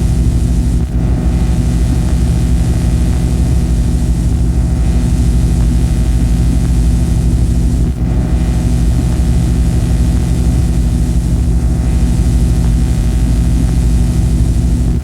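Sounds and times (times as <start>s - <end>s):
grainy bass flutter: 0.0s - 15.0s.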